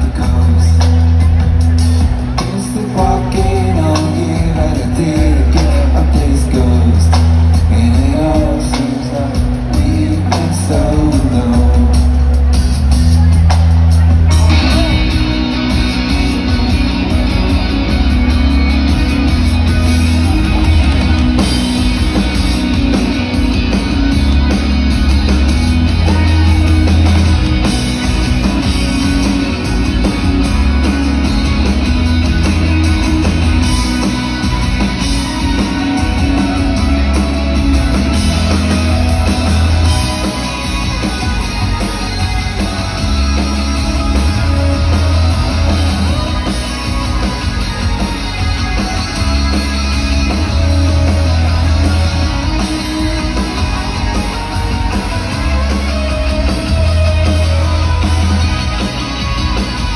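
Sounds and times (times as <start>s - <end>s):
live rock band: 0.0s - 59.9s.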